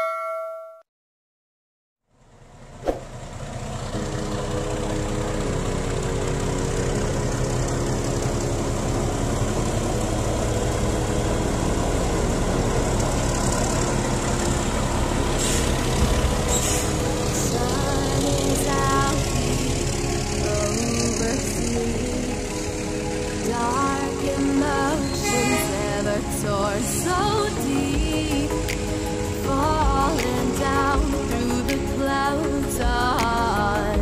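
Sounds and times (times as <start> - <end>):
diesel locomotive engine running: 2.3 - 34.0.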